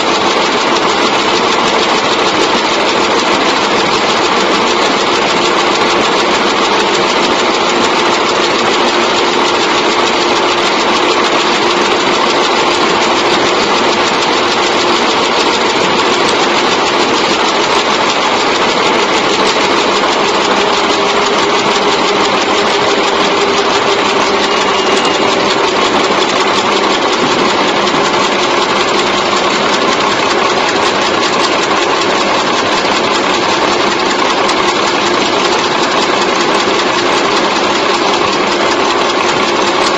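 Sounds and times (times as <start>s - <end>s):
constant machine hum: 0.0s - 39.9s
fast mechanical clatter: 0.0s - 39.9s.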